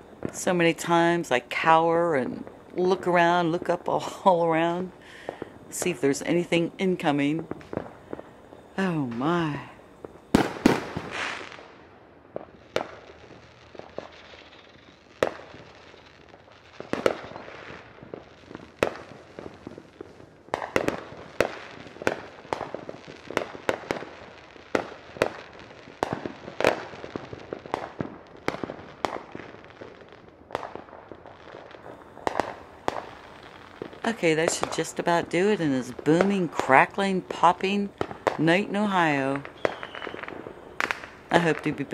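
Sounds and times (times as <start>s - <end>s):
fireworks booming and popping: 0.0s - 41.9s.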